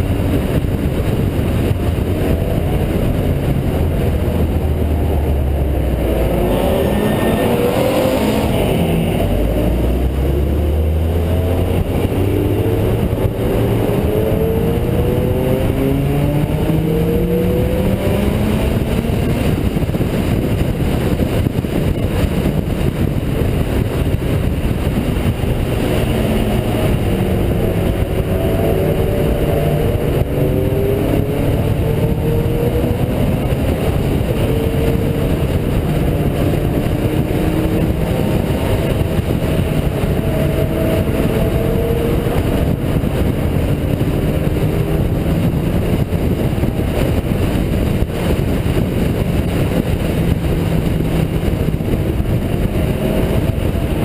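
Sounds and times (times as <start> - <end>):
car engine accelerating: 0.0 - 54.0
road and wind noise: 0.0 - 54.0.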